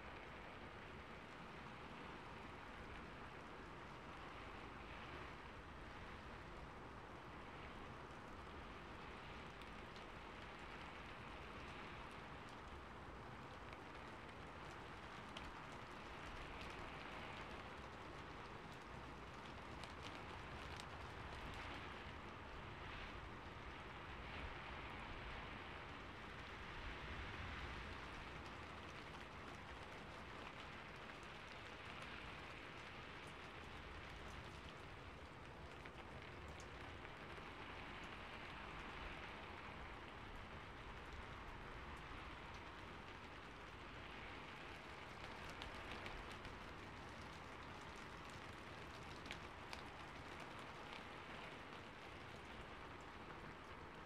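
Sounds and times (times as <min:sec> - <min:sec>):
patter of raindrops: 0:00.0 - 0:54.0
steady rain falling: 0:00.0 - 0:54.0.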